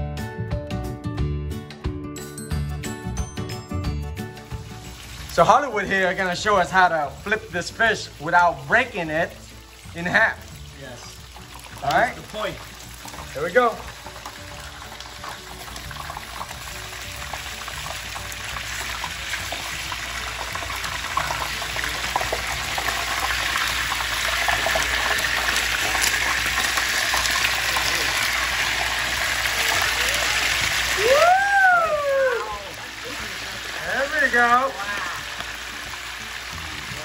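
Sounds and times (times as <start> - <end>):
fish sizzling in hot oil: 4.2 - 37.0.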